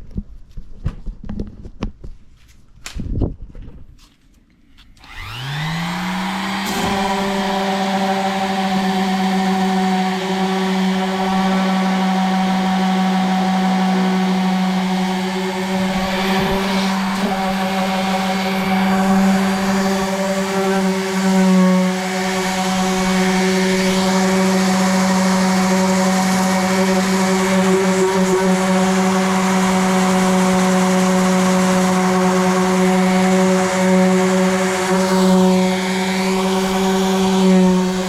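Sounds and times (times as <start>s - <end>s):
electric sander on wood: 5.0s - 38.0s.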